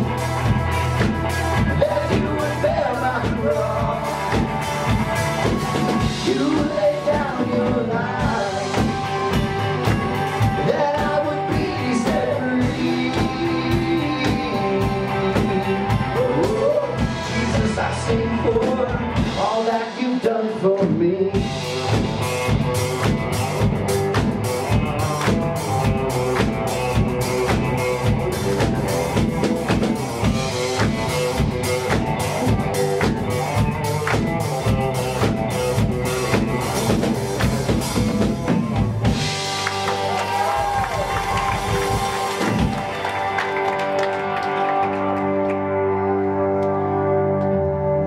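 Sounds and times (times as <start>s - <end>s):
busy drum beat: 0.0s - 43.7s
live band playing: 0.0s - 48.0s.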